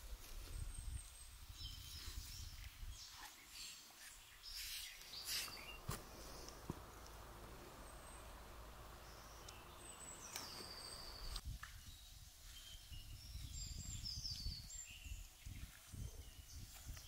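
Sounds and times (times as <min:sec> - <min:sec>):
bird chirps: 0:00.7 - 0:16.6.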